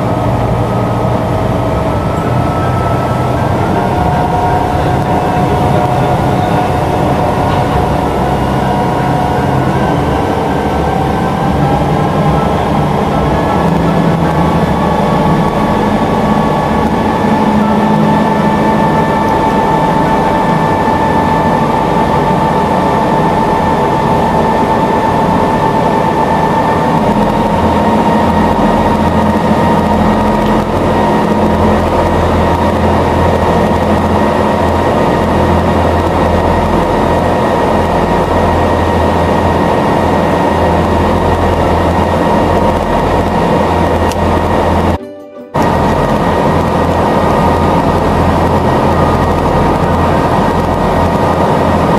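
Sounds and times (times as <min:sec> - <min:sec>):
boat engine drone: 0:00.0 - 0:51.9
low hum: 0:00.0 - 0:51.9
steady whine: 0:00.0 - 0:51.9.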